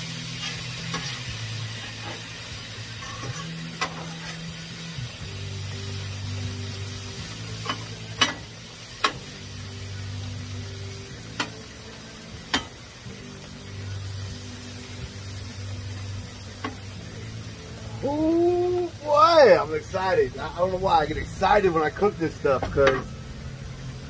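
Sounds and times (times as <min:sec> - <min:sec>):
steak sizzling on griddle: 0:00.0 - 0:24.0.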